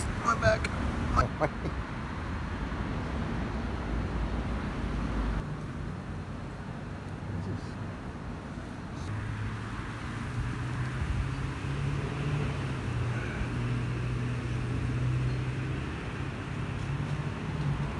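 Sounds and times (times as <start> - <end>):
engine humming steadily: 0.0 - 17.9.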